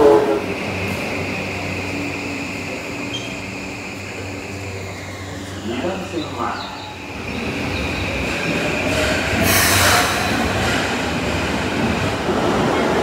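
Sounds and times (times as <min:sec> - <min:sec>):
subway train wheels and motors whine: 0:00.0 - 0:13.0.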